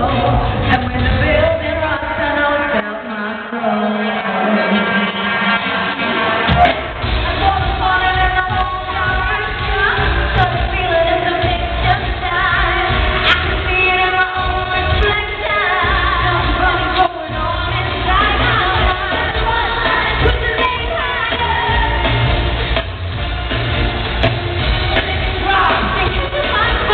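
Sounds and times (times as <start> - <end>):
women singing pop: 0.0 - 23.0, 24.8 - 26.9
loud band with heavy bass: 0.0 - 26.9.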